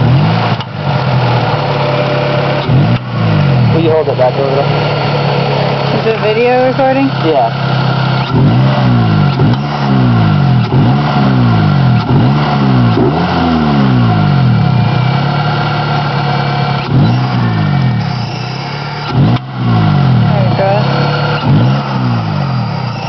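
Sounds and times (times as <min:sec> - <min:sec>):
engine revving in throttle blips: 0:00.0 - 0:23.0.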